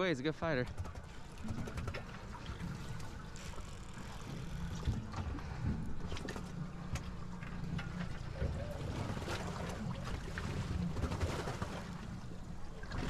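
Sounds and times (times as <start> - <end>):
boat motor rumble: 0.0 - 13.0
water sloshing: 0.2 - 13.0.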